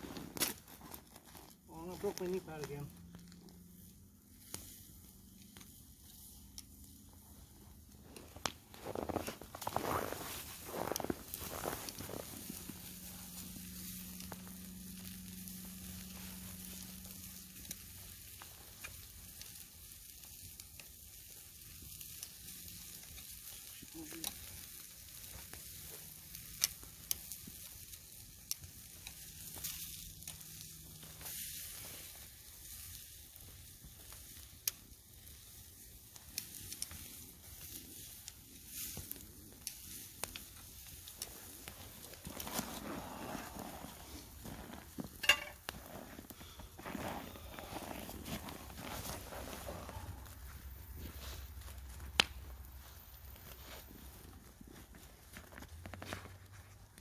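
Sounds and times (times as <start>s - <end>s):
campfire pops and crackles: 0.0s - 57.0s
meat sizzling on a grill: 1.5s - 54.3s.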